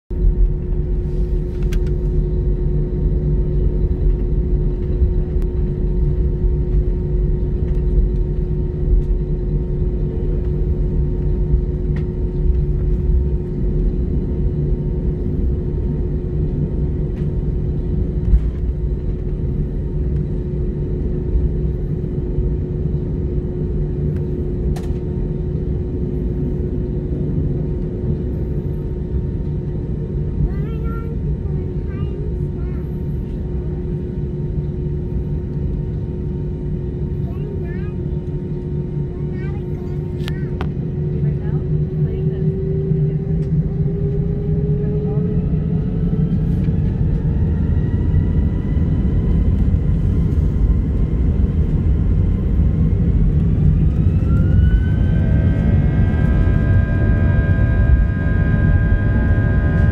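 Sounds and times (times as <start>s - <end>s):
constant hum tone: 0.1s - 59.9s
jet engines idling rumble: 0.1s - 59.9s.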